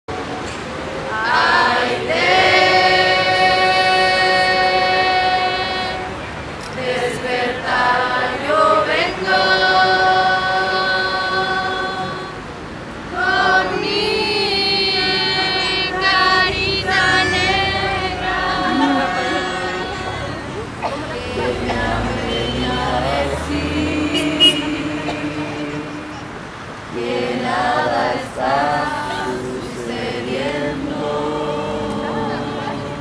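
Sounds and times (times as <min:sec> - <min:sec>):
choral singing: 0:00.1 - 0:33.0.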